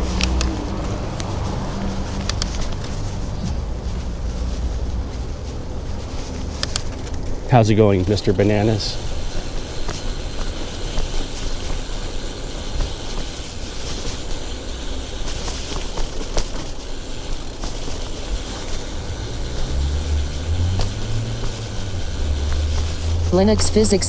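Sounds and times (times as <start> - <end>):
small clicks: 0.0 - 3.7, 6.3 - 24.0
vehicle engine hum: 0.0 - 24.0
wind and road rumble: 0.0 - 24.0.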